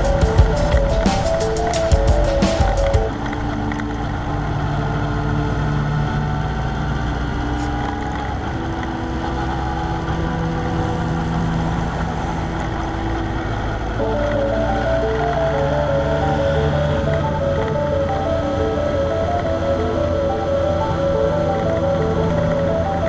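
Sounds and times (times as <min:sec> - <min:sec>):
vehicle engine and road noise: 0:00.0 - 0:23.0.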